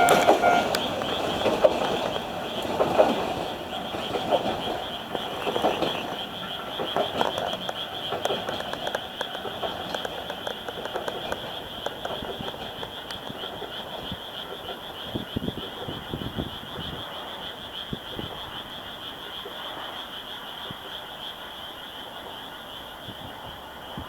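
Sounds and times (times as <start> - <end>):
frogs trilling: 0.0 - 24.0.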